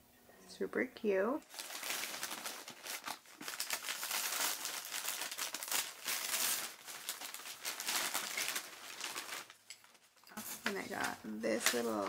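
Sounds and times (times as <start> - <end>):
paper crinkling and rustling: 1.4 - 12.0.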